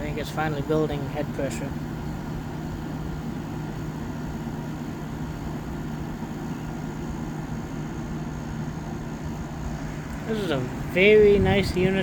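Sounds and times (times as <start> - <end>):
compressor humming: 0.0 - 12.0
fan rushing: 0.0 - 12.0.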